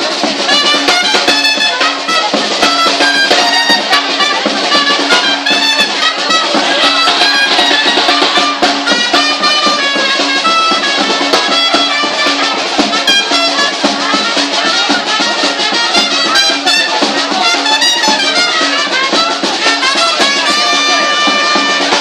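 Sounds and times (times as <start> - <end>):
bass drum and snare drum beat: 0.0 - 22.0
trumpets: 0.0 - 22.0.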